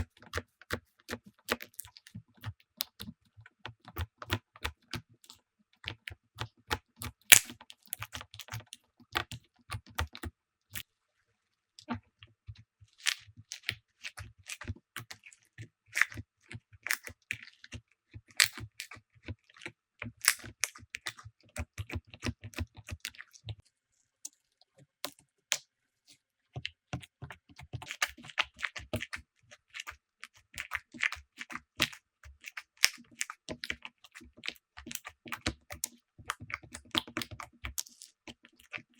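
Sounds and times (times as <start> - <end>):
slime squishing and crackling: 0.0 - 10.3, 12.9 - 23.6, 26.6 - 38.9.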